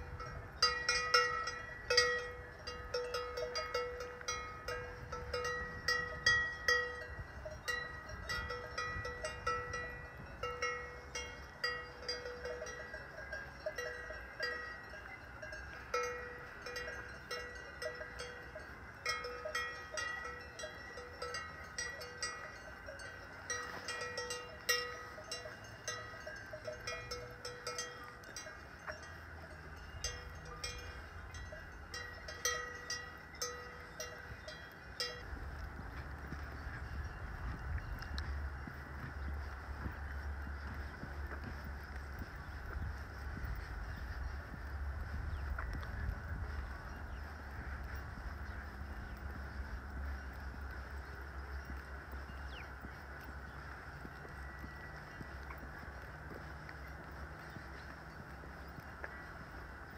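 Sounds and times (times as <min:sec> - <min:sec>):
cowbells clanking: 0:00.0 - 0:59.9.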